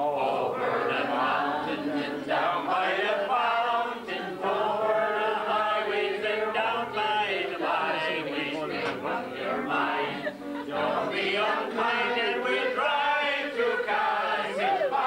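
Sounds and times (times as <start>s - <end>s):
crowd singing a ballad: 0.0s - 15.0s.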